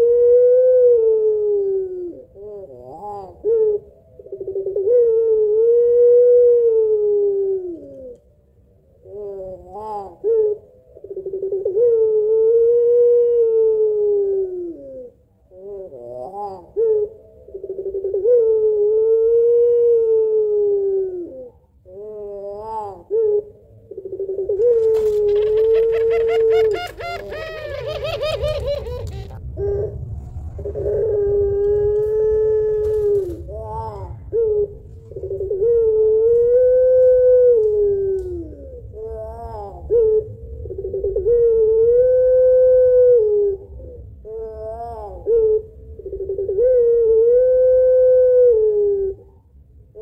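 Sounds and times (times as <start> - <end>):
dove cooing: 0.0 - 8.3, 8.9 - 50.0.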